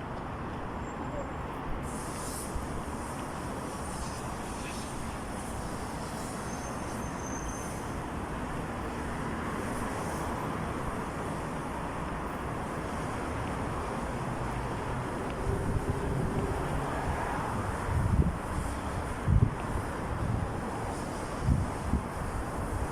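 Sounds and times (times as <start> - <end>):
road traffic rumble and hiss: 0.0 - 22.9.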